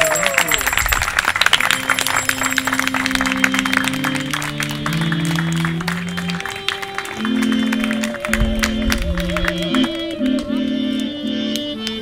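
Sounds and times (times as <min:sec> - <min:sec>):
audience clapping: 0:00.0 - 0:12.0
accordion playing chords: 0:01.6 - 0:12.0.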